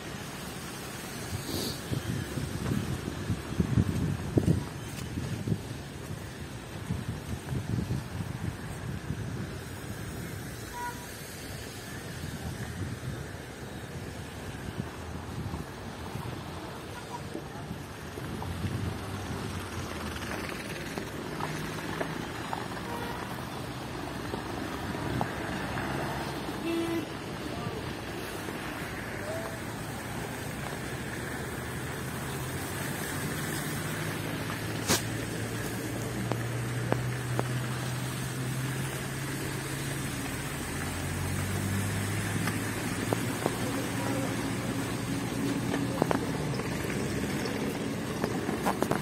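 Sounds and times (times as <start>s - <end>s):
cars on slushy street: 0.0s - 49.0s
road traffic passing: 0.0s - 49.0s.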